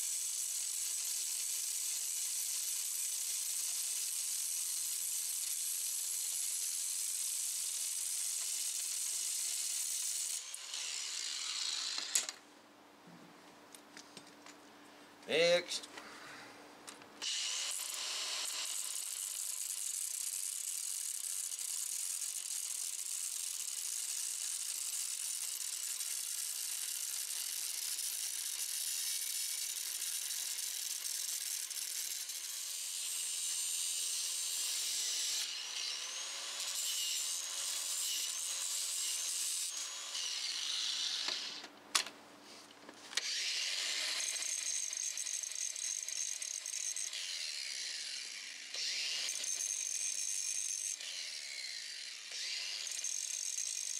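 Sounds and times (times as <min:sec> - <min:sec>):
angle grinder cutting steel: 0:00.0 - 0:12.4, 0:17.2 - 0:41.6, 0:43.2 - 0:53.9.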